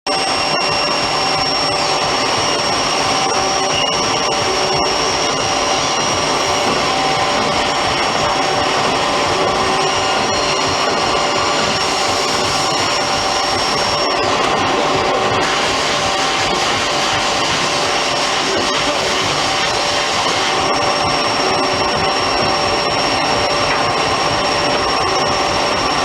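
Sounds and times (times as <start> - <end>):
high drive whine: 0.1 - 26.0
lathe machine whirring: 0.1 - 26.0.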